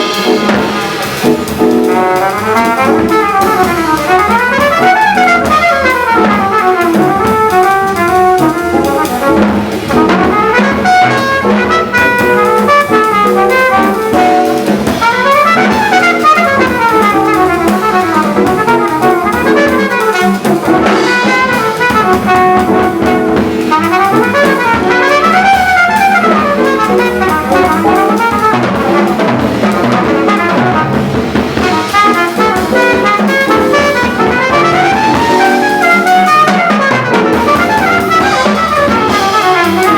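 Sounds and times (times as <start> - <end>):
drum kit and cymbals: 0.0 - 39.9
trumpet playing fast runs: 0.0 - 39.9.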